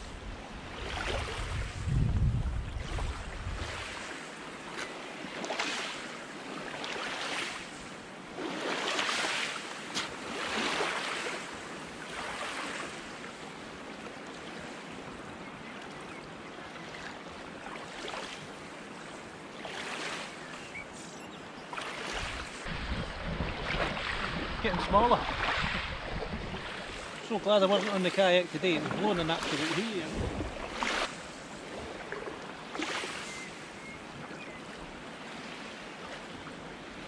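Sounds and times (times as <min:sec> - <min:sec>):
small waves washing onto shore: 0:00.0 - 0:37.0.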